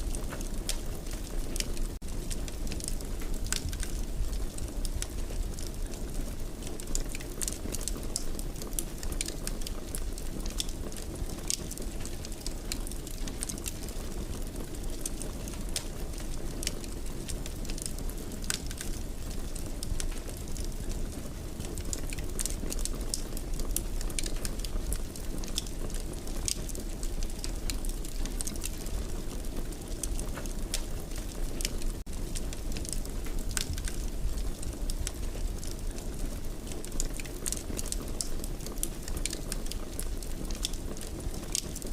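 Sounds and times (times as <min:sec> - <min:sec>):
low fire rumble: 0:00.0 - 0:41.9
wood fire crackling: 0:00.0 - 0:41.9.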